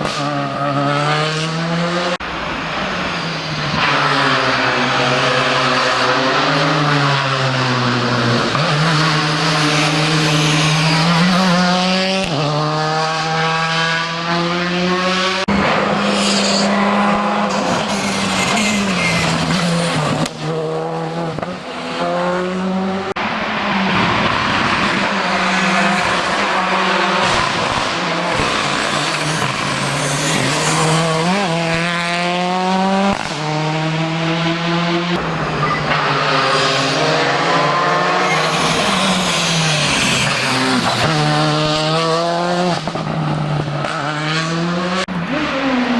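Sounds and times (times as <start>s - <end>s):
rally car engine accelerating: 0.0s - 45.9s.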